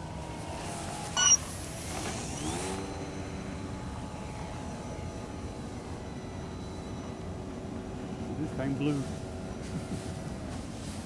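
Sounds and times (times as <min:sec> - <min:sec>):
model airplane motor and propeller: 0:00.0 - 0:11.0.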